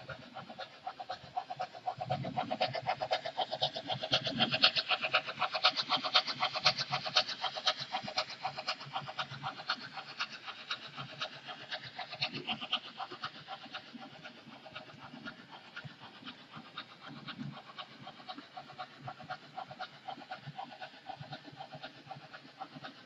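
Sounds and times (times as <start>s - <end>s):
model steam locomotive running: 0.0s - 23.0s.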